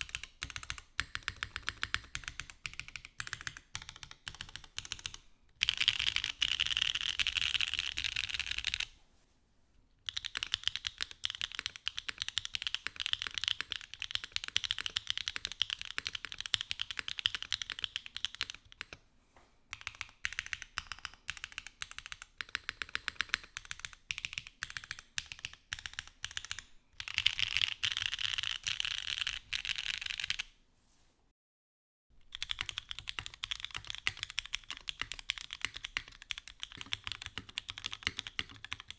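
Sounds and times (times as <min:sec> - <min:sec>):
mechanical keyboard typing: 0:00.0 - 0:08.9, 0:10.1 - 0:19.0, 0:19.7 - 0:30.5, 0:32.3 - 0:38.9.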